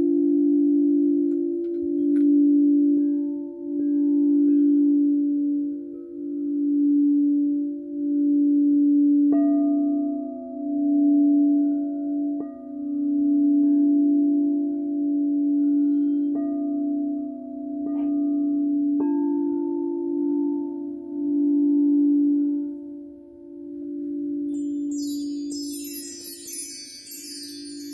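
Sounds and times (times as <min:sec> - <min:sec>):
singing bowl low tone: 0:00.0 - 0:27.9.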